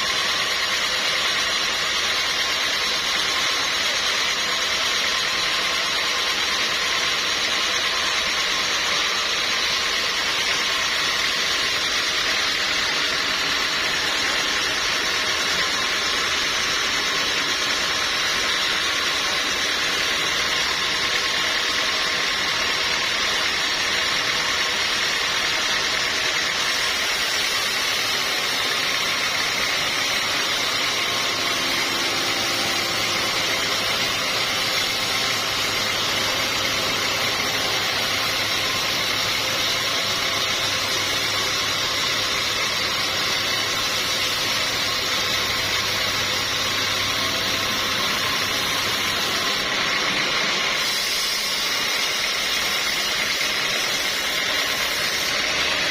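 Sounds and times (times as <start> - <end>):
sawmill machinery drone: 0.0 - 55.9.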